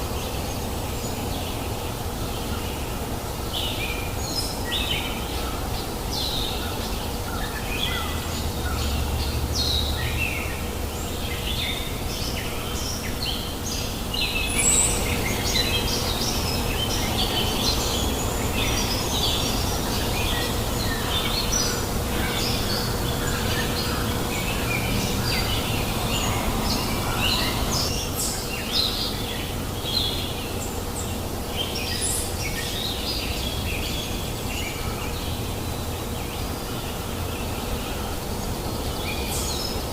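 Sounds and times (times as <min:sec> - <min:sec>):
river babbling: 0:00.0 - 0:39.9
small birds chirping: 0:00.0 - 0:39.9.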